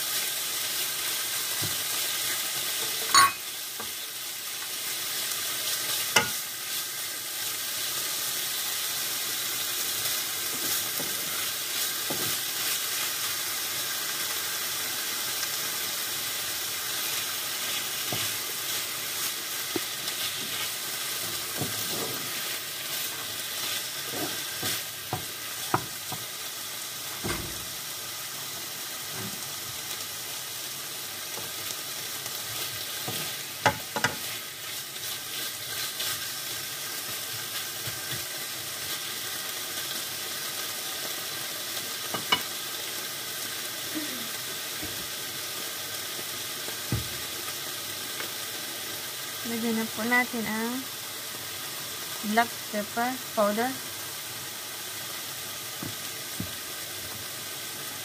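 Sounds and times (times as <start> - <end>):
chicken and onion sizzling: 0.0 - 58.0.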